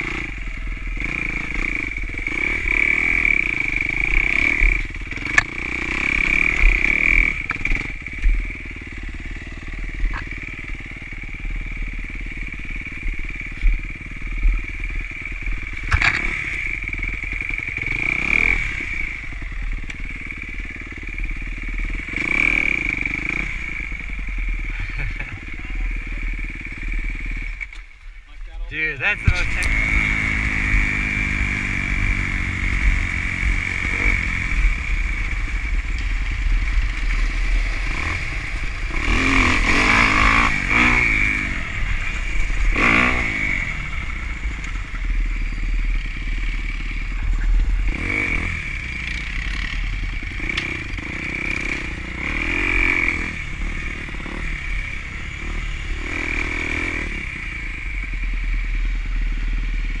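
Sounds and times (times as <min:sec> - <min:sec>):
off-road vehicle engine revving: 0:00.0 - 1:00.0.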